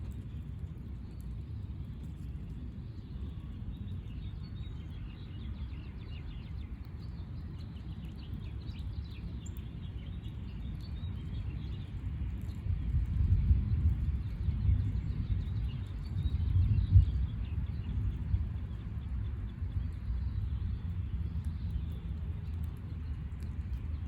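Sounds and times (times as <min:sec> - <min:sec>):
low rumble background noise: 0:00.0 - 0:24.0
small birds chirping: 0:02.0 - 0:24.0.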